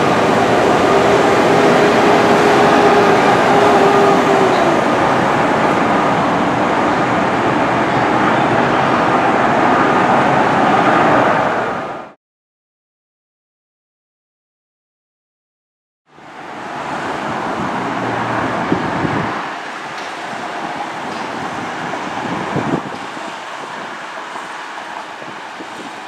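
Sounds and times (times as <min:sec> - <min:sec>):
train rumbling on rails: 0:00.0 - 0:12.2, 0:16.1 - 0:26.0.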